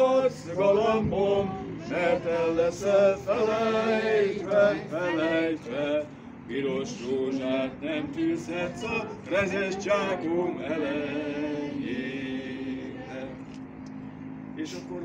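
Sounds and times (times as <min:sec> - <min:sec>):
group of people singing: 0:00.0 - 0:13.6.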